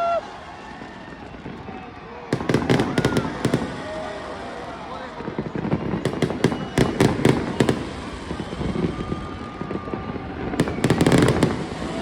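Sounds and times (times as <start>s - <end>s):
fireworks banging and crackling: 0.3s - 12.0s.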